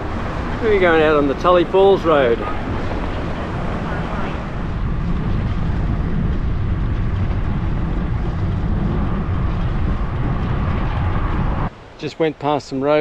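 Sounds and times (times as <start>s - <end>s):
wind on microphone: 0.0s - 12.0s
road noise: 0.0s - 12.1s.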